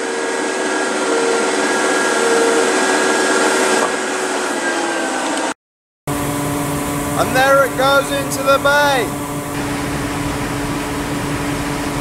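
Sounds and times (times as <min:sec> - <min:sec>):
loader engine and hydraulics: 0:00.0 - 0:12.0.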